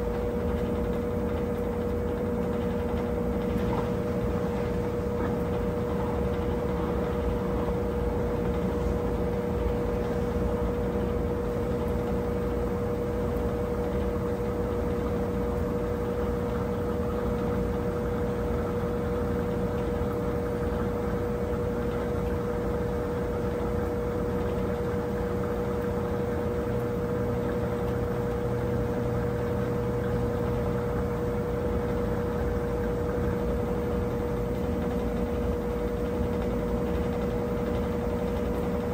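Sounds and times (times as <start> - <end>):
washing machine whining: 0.0 - 38.9.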